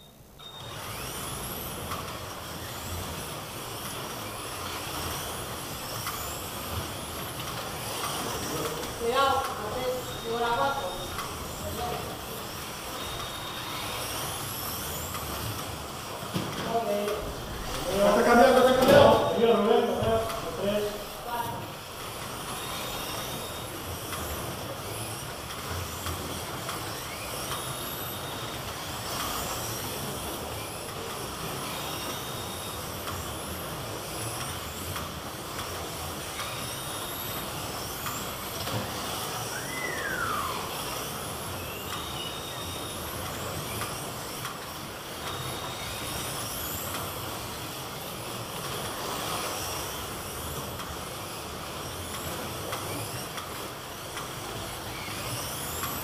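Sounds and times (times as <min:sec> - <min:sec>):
slot car motors whining: 0:00.0 - 0:56.0
rush of cars on track: 0:00.5 - 0:56.0.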